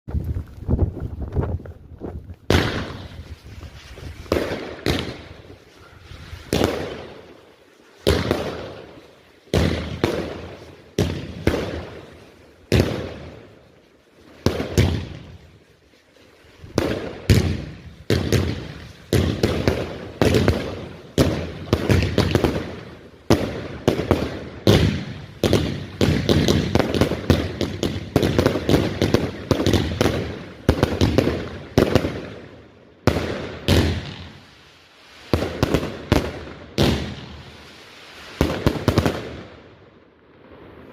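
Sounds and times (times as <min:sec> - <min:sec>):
firework bangs: 0:02.4 - 0:15.6, 0:16.6 - 0:40.9.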